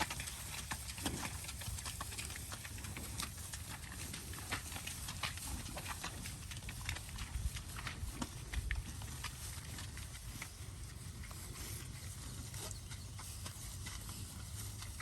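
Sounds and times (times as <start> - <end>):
cattle hooves clicking: 0.0 - 15.0.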